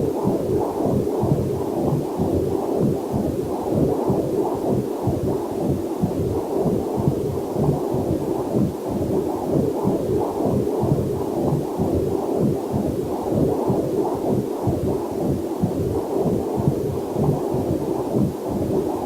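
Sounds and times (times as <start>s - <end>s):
whooshing fetal heartbeat: 0.0s - 19.0s.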